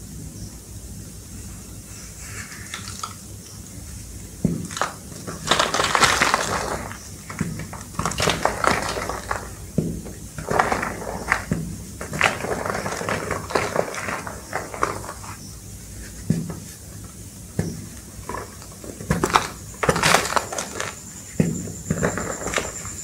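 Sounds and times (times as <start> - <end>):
chalk blocks crunching by hand: 2.0 - 23.0.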